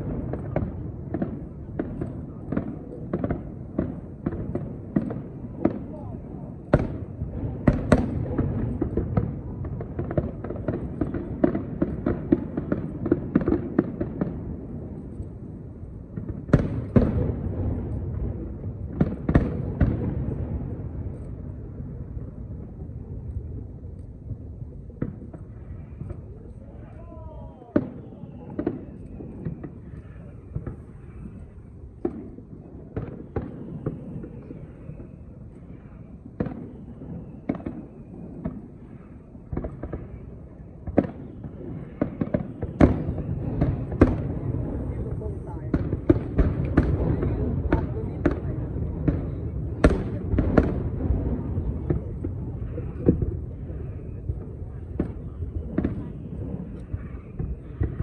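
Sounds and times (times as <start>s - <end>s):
firework bangs with rumble: 0.0s - 15.1s, 16.1s - 22.8s, 27.7s - 30.9s, 32.0s - 34.5s, 36.4s - 38.7s, 39.5s - 40.1s, 40.8s - 58.0s
firework crackling pops: 0.0s - 58.0s.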